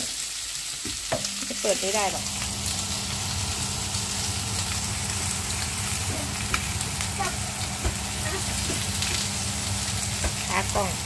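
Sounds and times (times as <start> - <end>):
meat sizzling on grill pan: 0.0 - 11.0
constant low hum: 1.2 - 11.0.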